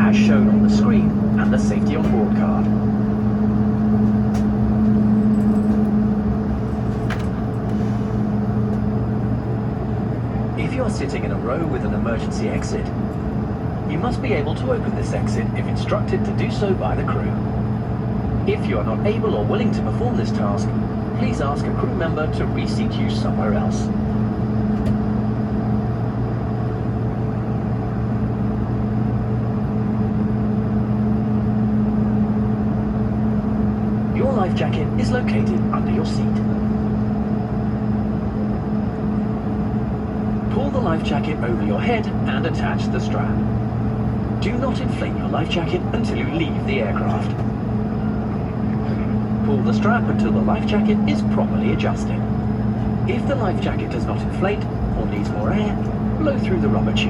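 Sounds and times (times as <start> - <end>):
aircraft cabin drone: 0.0 - 57.0
steady low tones: 0.0 - 57.0.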